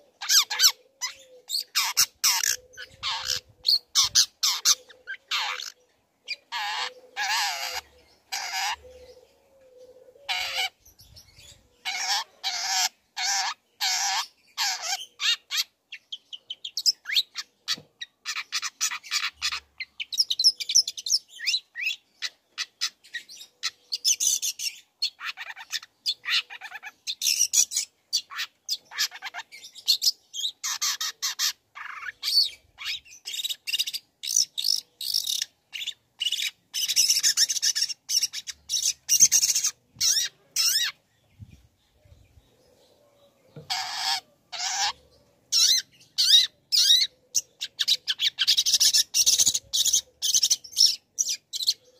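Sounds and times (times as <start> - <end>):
bird harsh rasping calls: 0.0 - 9.2, 10.2 - 41.0, 43.5 - 51.9
bird chirps and twittering: 0.0 - 51.9.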